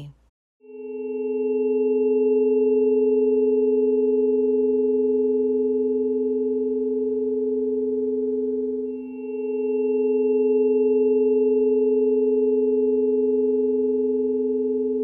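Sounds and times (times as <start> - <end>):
pure tones held chord: 0.6 - 15.0.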